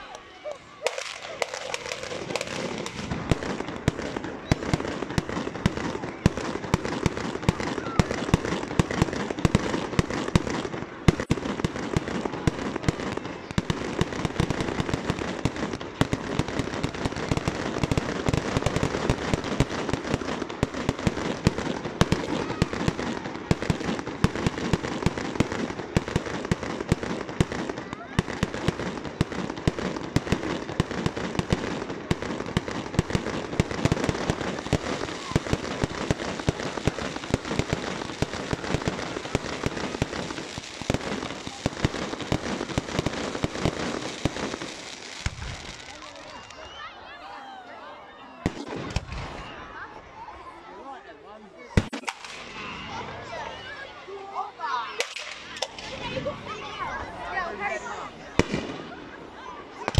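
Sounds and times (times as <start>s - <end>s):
fireworks bangs: 0.0s - 46.9s, 48.4s - 49.8s, 51.6s - 59.9s.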